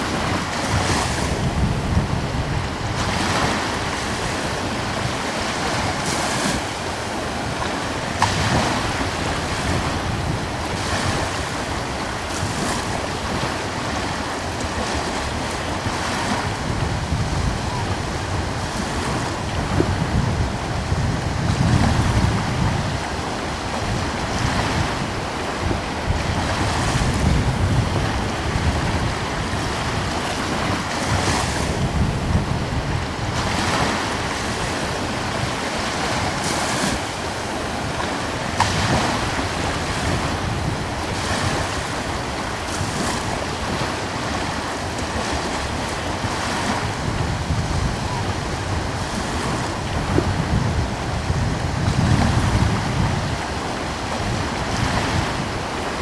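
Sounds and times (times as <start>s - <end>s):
coastal breeze: 0.0s - 56.0s
small waves washing onto shore: 0.0s - 56.0s
wind rumbling on microphone: 0.0s - 56.0s.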